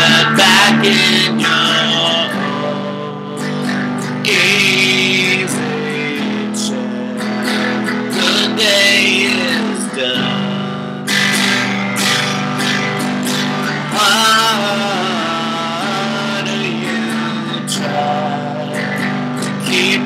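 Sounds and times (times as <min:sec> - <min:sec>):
guitar chords strummed: 0:00.0 - 0:20.0.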